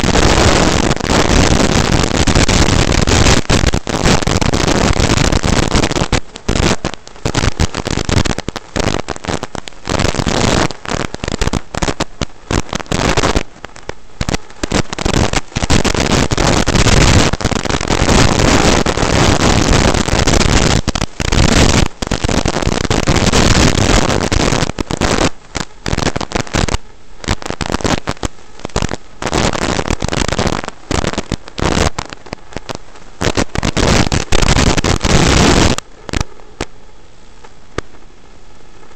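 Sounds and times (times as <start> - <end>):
crackling radio static: 0.0 - 38.9.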